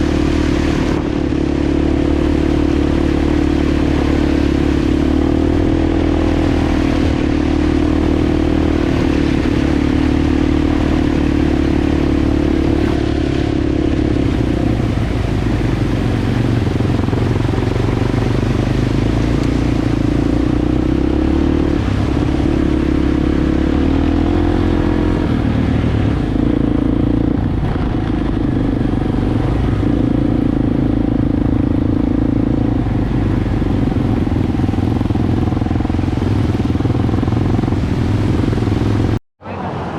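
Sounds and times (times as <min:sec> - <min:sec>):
motorbike engine running: 0:00.0 - 0:39.2.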